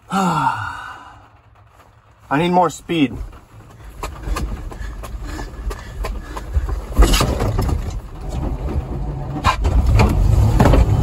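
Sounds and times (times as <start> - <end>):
pickup truck rolling rumble: 0.0 - 11.0
knocks and clunks: 1.5 - 11.0.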